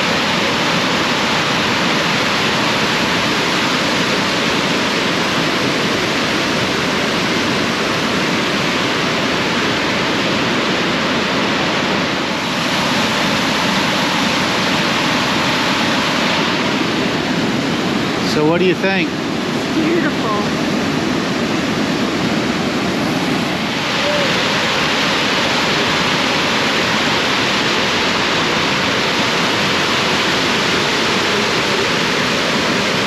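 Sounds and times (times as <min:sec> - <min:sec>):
large waterfall rushing: 0:00.0 - 0:33.0.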